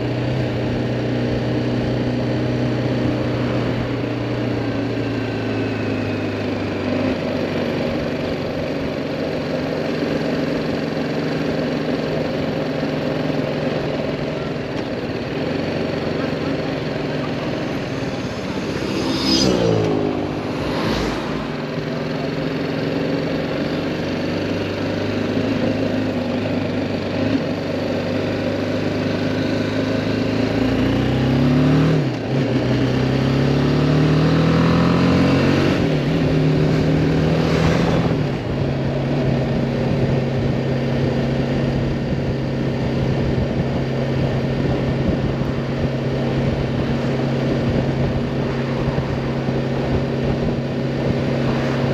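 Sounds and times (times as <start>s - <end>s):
motorcycle engine accelerating: 0.0s - 51.9s
wind and road noise: 0.0s - 51.9s.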